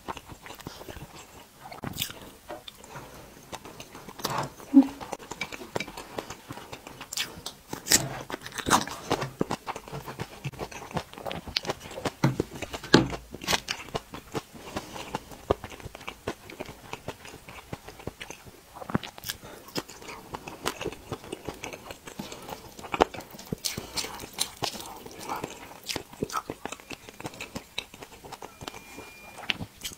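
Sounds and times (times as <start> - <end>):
chewing and biting food: 0.0 - 29.9.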